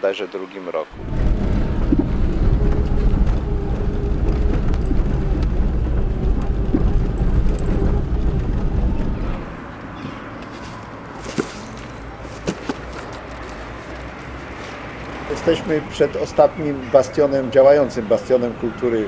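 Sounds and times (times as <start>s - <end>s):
car engine and road noise: 0.9s - 19.0s.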